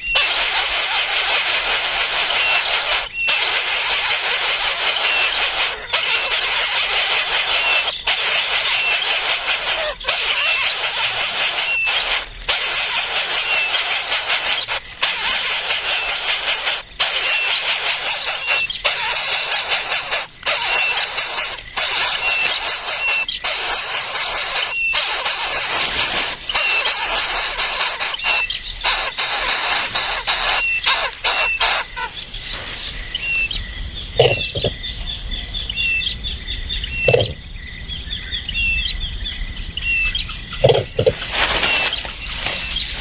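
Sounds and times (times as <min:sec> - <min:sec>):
baby birds calling: 0:00.0 - 0:43.0.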